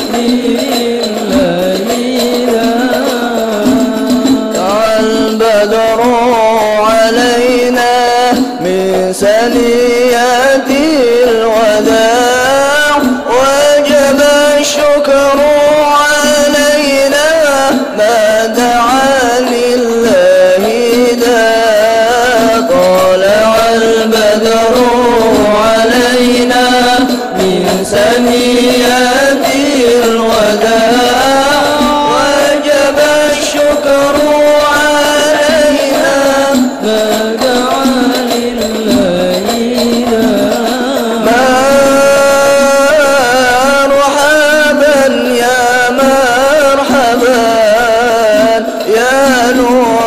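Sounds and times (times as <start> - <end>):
hand-struck frame drums: 0.0 - 50.0
lead voice on microphone: 0.0 - 50.0
men singing devotional song: 0.0 - 50.0.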